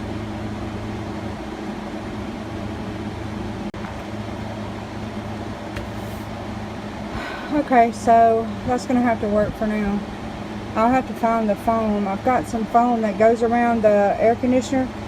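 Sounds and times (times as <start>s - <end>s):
mechanical hum with low drone: 0.0s - 15.0s.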